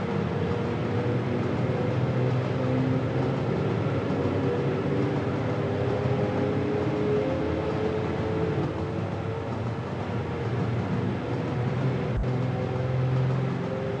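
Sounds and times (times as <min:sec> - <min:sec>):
passenger train running: 0:00.0 - 0:14.0.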